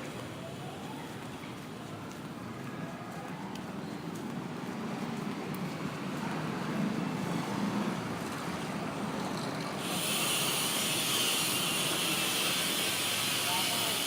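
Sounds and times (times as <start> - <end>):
low rumble of passing vehicles: 0.0 - 14.0.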